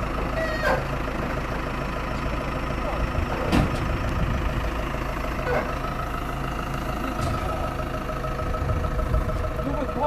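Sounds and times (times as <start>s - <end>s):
heavy vehicle engine idling: 0.0s - 10.0s.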